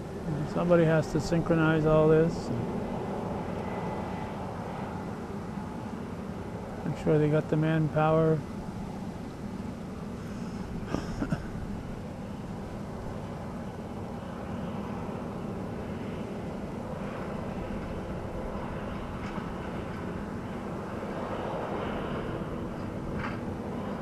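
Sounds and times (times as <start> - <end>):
harvester engine drone: 0.0 - 24.0.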